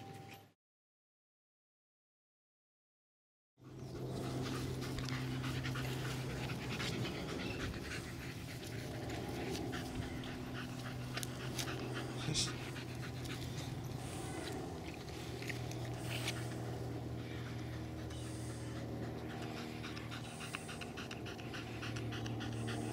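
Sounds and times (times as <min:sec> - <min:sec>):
dogs panting: 0:03.6 - 0:22.9
steady low hum: 0:03.6 - 0:22.9.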